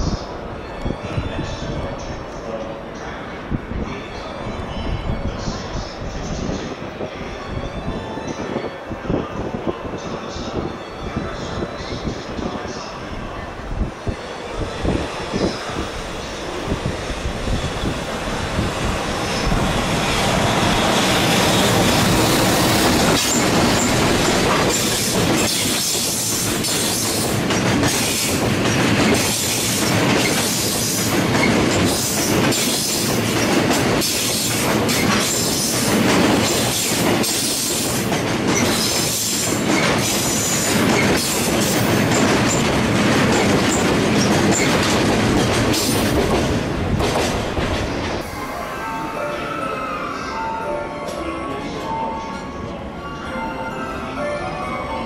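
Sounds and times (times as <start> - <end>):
freight train passing: 0.0 - 55.0.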